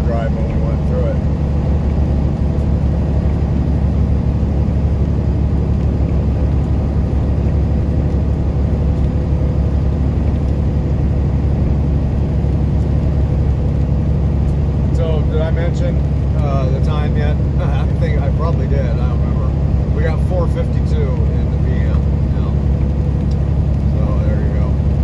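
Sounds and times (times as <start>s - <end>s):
truck engine drone: 0.0s - 25.0s
tyre and road noise: 0.0s - 25.0s.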